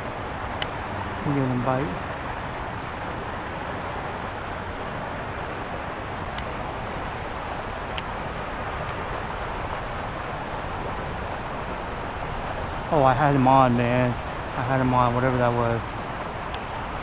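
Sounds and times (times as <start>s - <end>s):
outdoor background rush: 0.0s - 17.0s.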